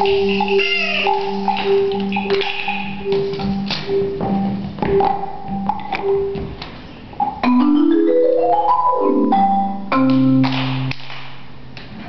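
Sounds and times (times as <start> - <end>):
struck pitched notes melody: 0.0 - 10.5.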